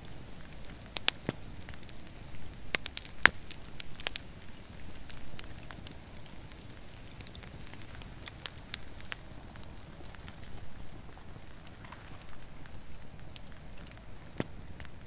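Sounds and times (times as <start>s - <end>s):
log fire crackling and popping: 0.0s - 15.0s.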